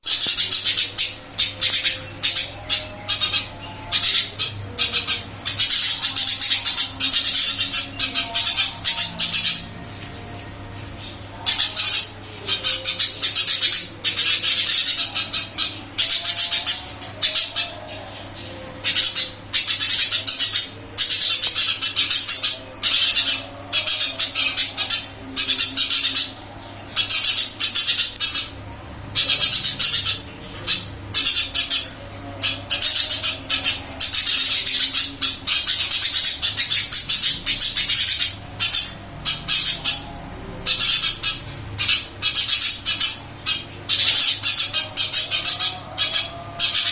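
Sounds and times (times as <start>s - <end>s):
sparrow chirping: 0.0s - 46.9s.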